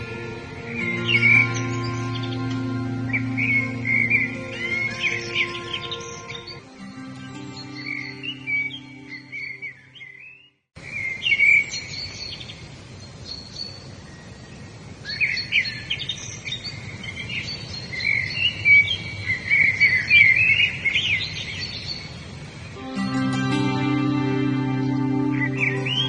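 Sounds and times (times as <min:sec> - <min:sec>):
steady background hiss: 0:00.0 - 0:09.8, 0:10.8 - 0:26.0
wild birds chirping and singing: 0:00.0 - 0:22.8, 0:24.8 - 0:26.0.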